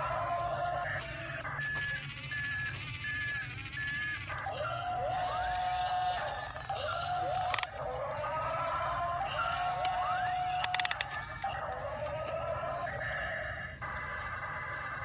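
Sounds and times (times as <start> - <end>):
swooping electronic tones: 0.0 - 15.0.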